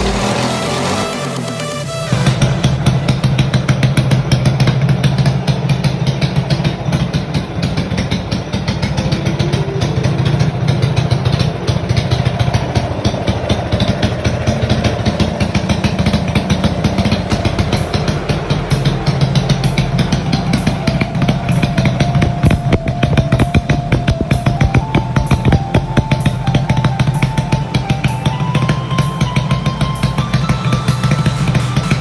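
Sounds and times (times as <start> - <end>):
small engine running: 0.0 - 32.0.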